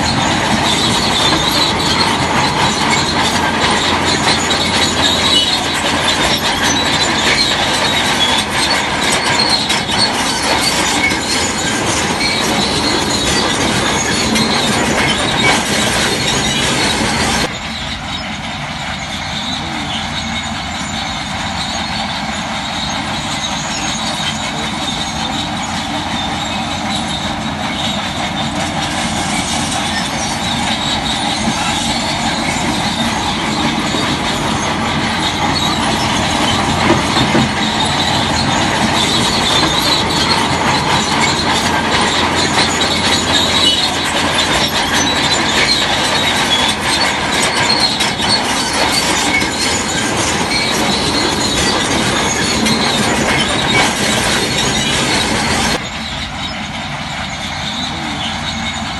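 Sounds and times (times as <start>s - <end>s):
bulldozer engine: 0.0s - 58.9s
steel tracks squealing and clattering: 0.0s - 58.9s.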